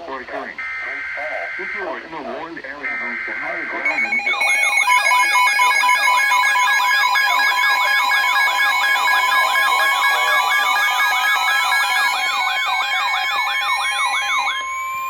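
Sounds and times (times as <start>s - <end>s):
beeping tone: 0.6s - 15.0s
steady tone: 0.6s - 15.0s
warbling siren-like alarm tone: 2.8s - 15.0s.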